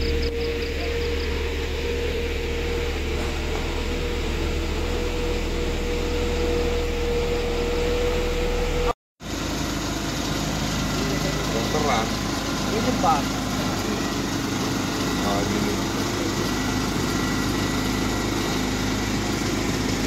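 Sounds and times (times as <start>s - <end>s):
diesel engine humming and whining: 0.0s - 20.0s.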